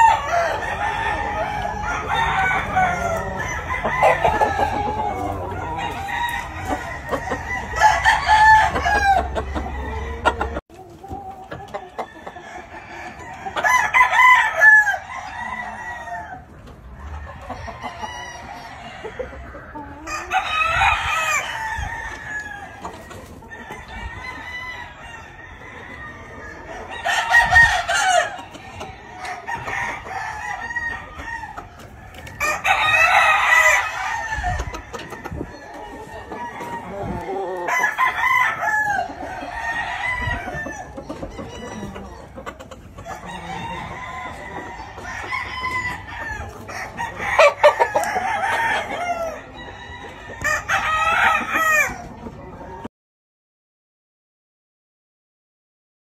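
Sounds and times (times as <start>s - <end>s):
roosters crowing: 0.0s - 52.7s
chickens clucking: 0.0s - 52.9s.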